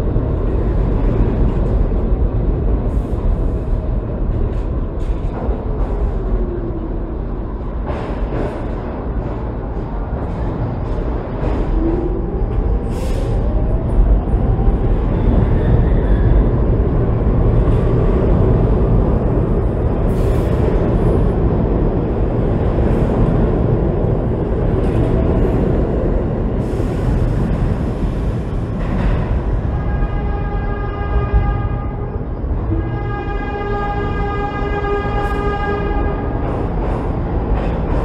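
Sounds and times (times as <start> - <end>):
subway train motors whining: 0.0 - 38.0
train cars rumbling and rattling: 0.0 - 38.0.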